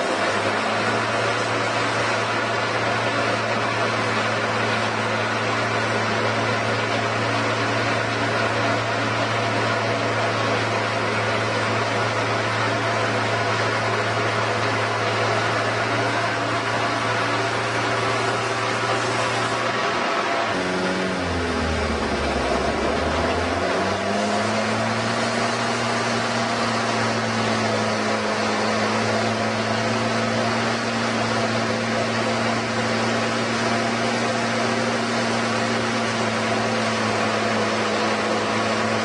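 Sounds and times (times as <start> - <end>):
machine humming steadily: 0.0 - 39.0.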